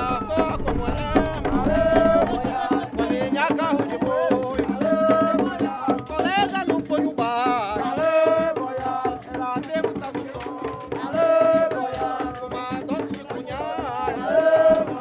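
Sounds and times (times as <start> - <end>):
hand drums and percussion: 0.0 - 15.0
person singing: 0.0 - 15.0.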